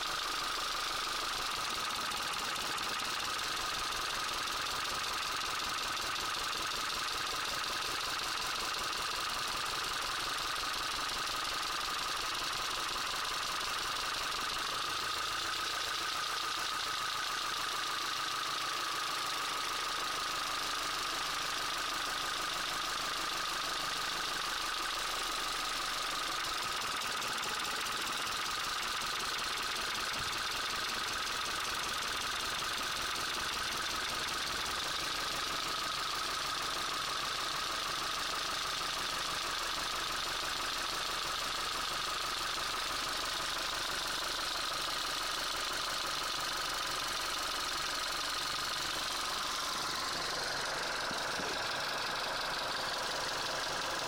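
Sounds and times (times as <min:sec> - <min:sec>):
car engine idling: 0:00.0 - 0:54.0
engine knocking and rattling: 0:00.0 - 0:54.0.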